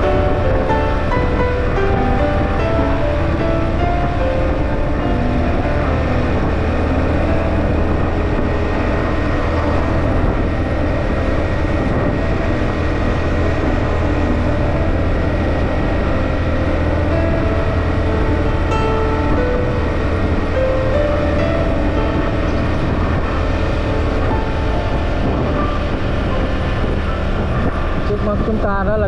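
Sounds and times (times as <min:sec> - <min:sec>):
motorbike engine and road noise: 0:00.0 - 0:29.0.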